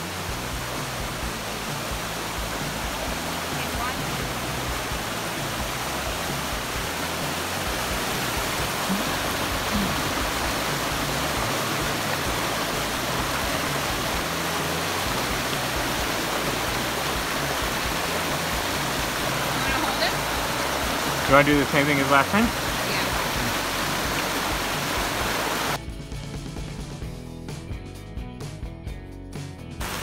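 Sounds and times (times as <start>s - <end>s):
water rushing over rocks: 0.0s - 25.8s.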